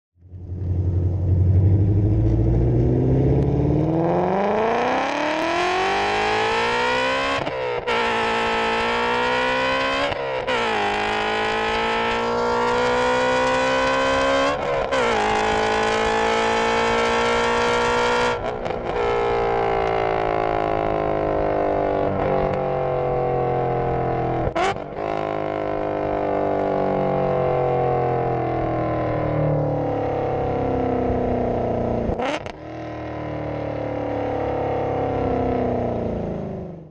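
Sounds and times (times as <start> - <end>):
car engine revving: 0.2 - 36.9
road and wind noise: 0.2 - 36.9.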